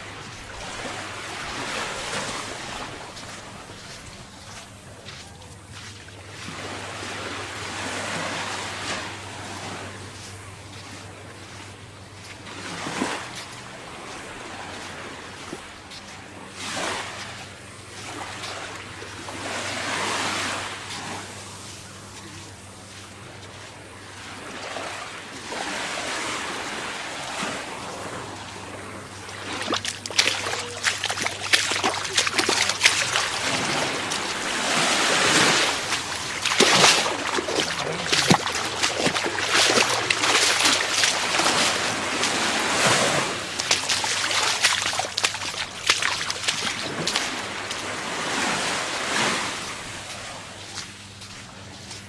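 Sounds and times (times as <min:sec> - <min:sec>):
surf breaking on sand: 0:00.0 - 0:51.9.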